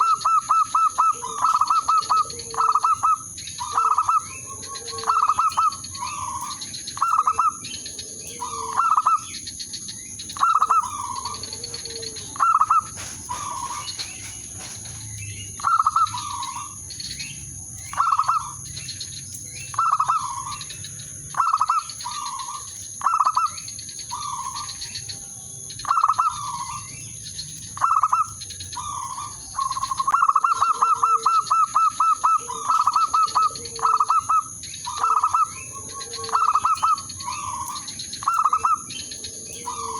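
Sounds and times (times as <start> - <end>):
dove cooing: 0.0 - 18.8, 19.4 - 27.1, 27.8 - 39.9.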